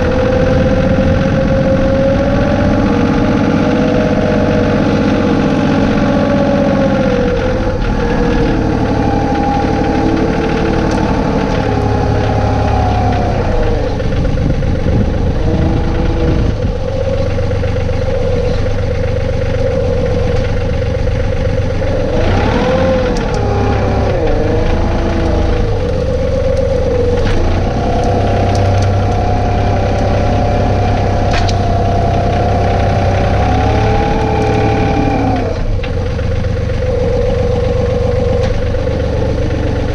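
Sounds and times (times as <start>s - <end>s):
tractor diesel engine running: 0.0s - 39.9s
whining tone: 0.0s - 39.9s.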